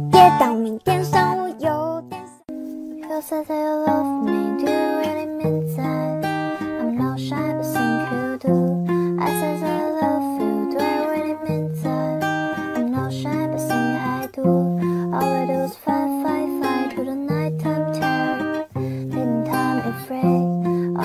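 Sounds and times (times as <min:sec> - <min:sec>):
bouncy plucked string tune: 0:00.0 - 0:21.0.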